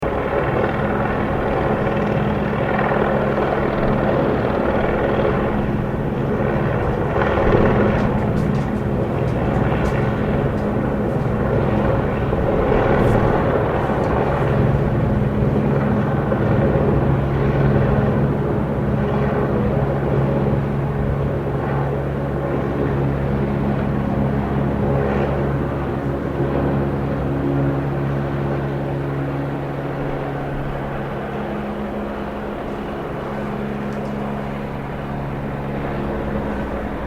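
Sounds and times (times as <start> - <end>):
helicopter rotor and engine drone: 0.0 - 37.0.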